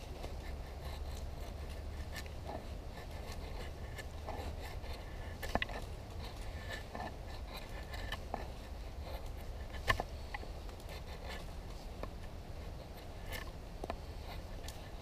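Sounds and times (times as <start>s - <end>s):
knife shaving a stick: 0.0s - 15.0s.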